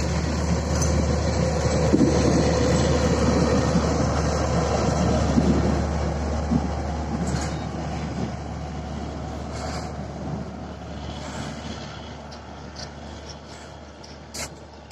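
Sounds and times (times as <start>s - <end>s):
train coaches rumbling over rails: 0.0s - 14.9s.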